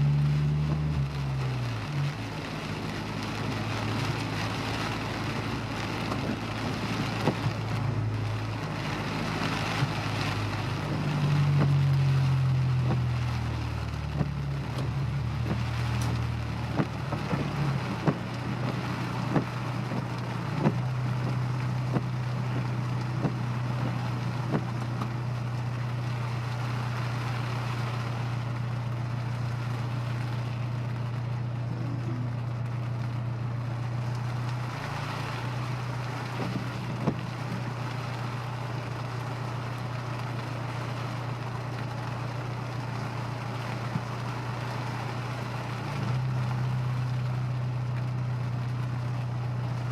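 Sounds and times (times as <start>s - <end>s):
car engine running: 0.0s - 49.9s
rain noise: 0.0s - 49.9s
road noise: 0.0s - 49.9s.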